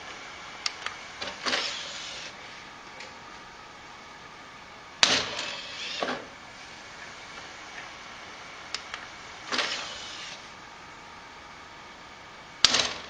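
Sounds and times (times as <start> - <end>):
drive tray motor whirring: 0.0 - 13.0.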